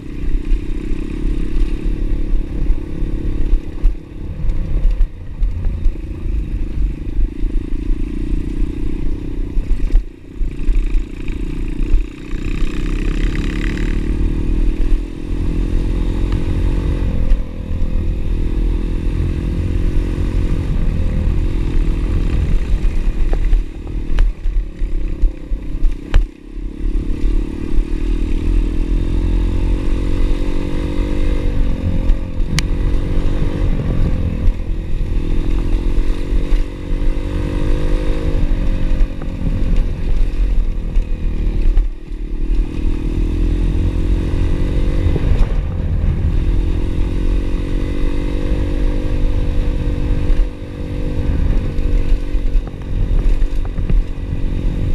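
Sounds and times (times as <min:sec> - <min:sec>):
small motorbike engine revving: 0:00.0 - 0:54.9.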